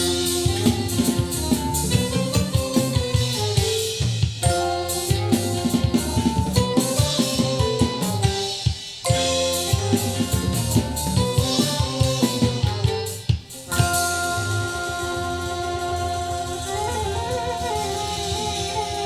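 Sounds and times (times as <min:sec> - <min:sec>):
music with drums and bass: 0:00.0 - 0:19.0.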